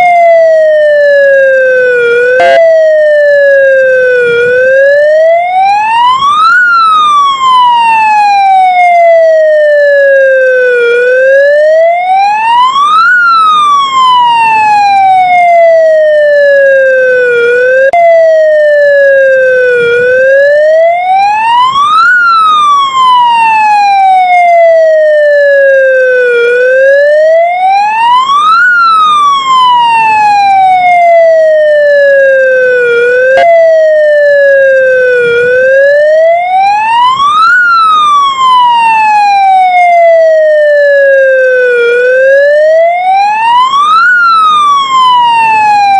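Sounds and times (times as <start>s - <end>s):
ambulance siren wailing: 0.0s - 45.9s.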